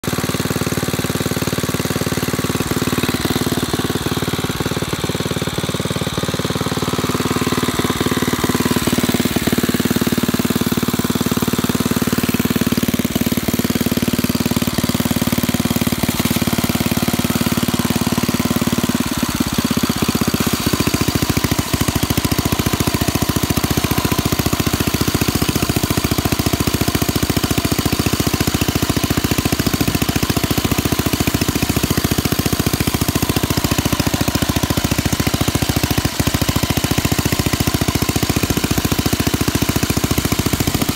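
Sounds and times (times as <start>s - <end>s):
single-cylinder mower engine running: 0.0s - 40.9s.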